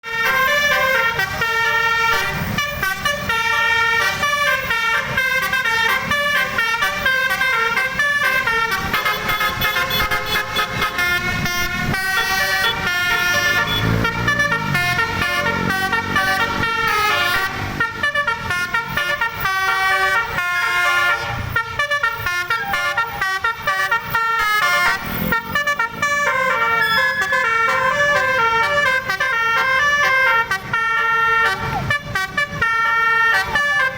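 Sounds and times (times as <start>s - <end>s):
multi-tone bus horn melody: 0.0s - 33.9s.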